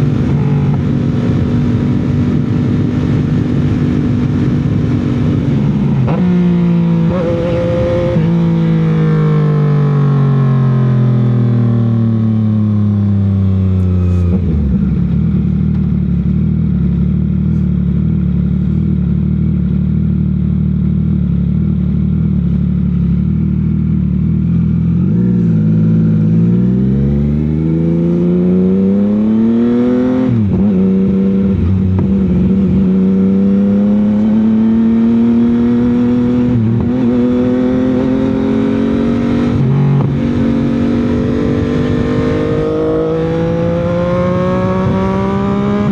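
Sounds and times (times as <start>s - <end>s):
motorcycle engine and exhaust: 0.0s - 45.9s.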